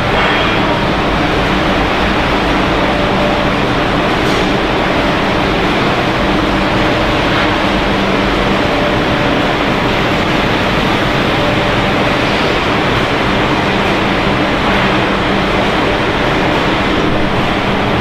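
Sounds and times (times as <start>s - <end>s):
machinery drone: 0.0s - 18.0s.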